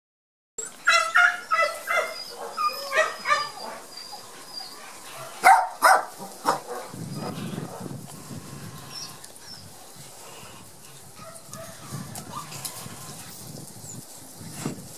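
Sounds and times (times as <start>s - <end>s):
puppies yipping: 0.6s - 14.0s.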